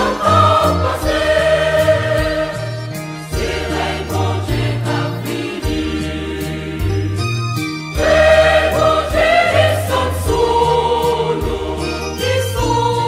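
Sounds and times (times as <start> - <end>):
steady percussion beat: 0.0 - 7.2, 8.0 - 12.0
gospel choir singing: 0.0 - 7.3, 8.0 - 13.0.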